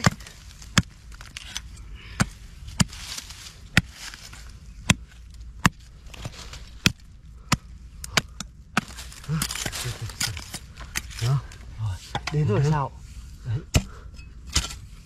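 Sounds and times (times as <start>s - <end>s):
soil scraping and crackling: 0.0s - 15.0s.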